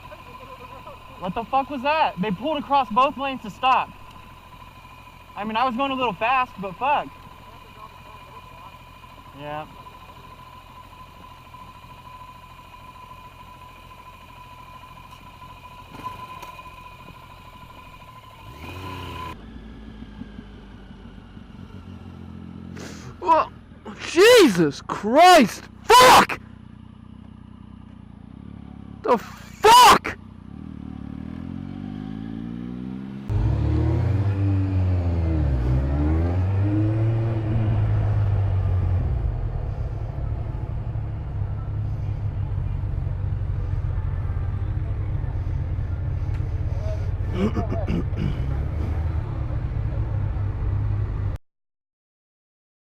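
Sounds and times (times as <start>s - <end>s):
motorcycle engine running: 0.0s - 51.4s.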